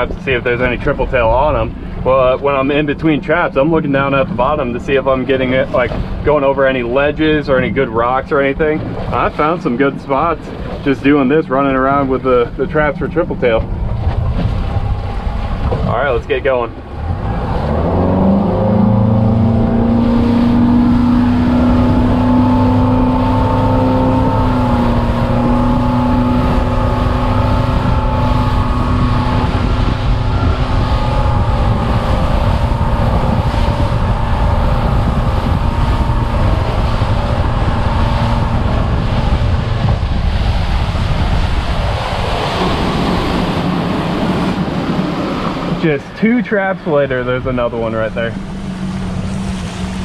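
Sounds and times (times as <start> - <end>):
outboard motor running: 0.0 - 50.0
water rushing past hull: 0.0 - 50.0
wind buffeting microphone: 0.0 - 50.0.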